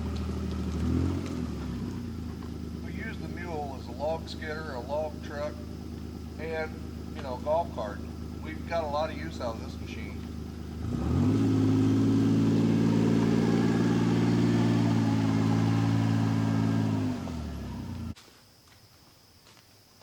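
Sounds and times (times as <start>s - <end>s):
utility vehicle engine revving: 0.0s - 18.2s.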